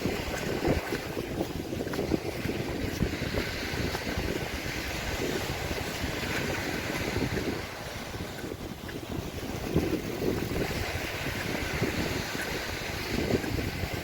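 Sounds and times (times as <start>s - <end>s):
waves on shore: 0.0s - 14.0s
wind buffeting microphone: 0.0s - 14.0s.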